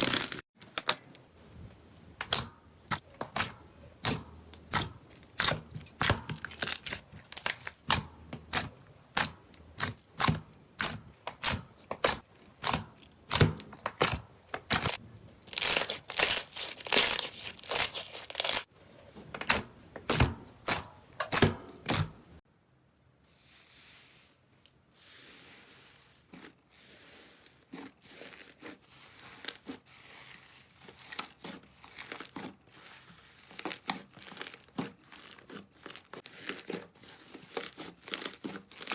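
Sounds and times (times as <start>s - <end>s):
slime crinkling squishes: 0.0s - 0.4s, 1.0s - 22.0s, 23.9s - 38.9s.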